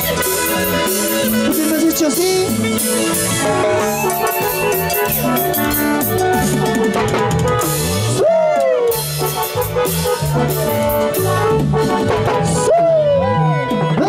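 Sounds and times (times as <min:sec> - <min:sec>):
bouncing bass line: 0:00.0 - 0:14.0
drum kit: 0:00.0 - 0:14.0
swooping lead melody: 0:00.0 - 0:14.0.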